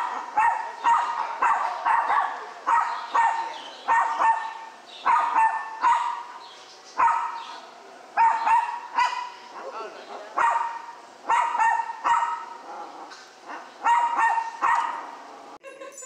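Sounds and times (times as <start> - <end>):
dog barking: 0.0 - 6.4, 7.0 - 15.2.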